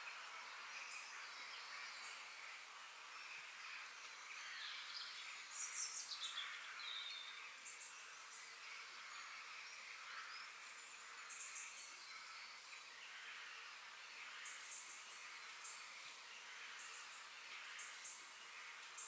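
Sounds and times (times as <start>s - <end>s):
steady high background hiss: 0.0s - 19.0s.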